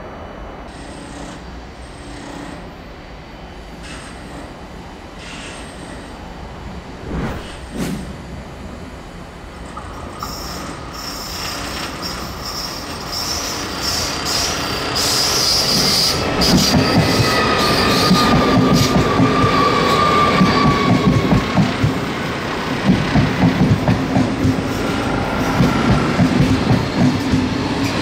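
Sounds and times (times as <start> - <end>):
train running: 0.0 - 28.0
train wheels squealing on rails: 0.7 - 2.8, 3.4 - 6.4, 9.7 - 28.0.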